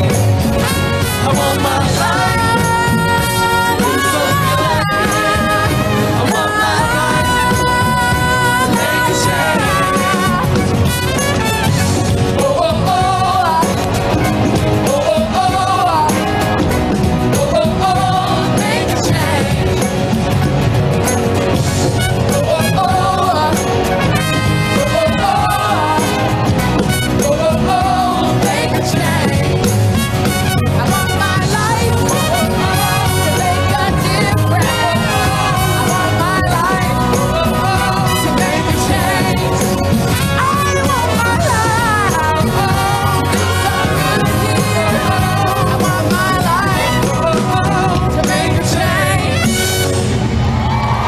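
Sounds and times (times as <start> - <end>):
acoustic guitar: 0.0 - 51.0
upbeat band with singing and brass: 0.0 - 51.0.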